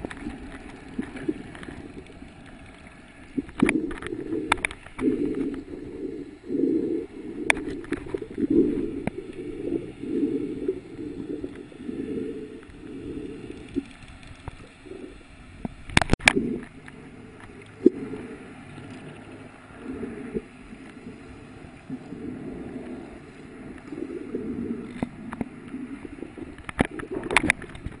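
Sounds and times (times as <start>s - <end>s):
muffled underwater sloshing: 0.0s - 28.0s.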